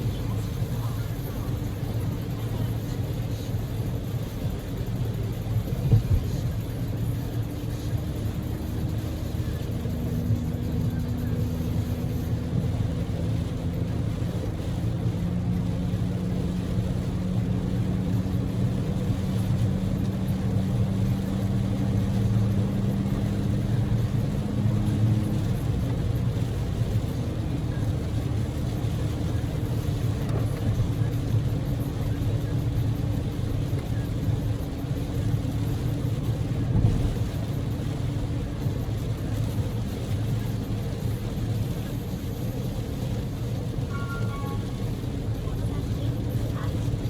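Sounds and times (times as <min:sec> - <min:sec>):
car engine droning: 0:00.0 - 0:47.0
tyres rumbling on wet road: 0:00.0 - 0:47.0
heavy rain: 0:00.1 - 0:47.0.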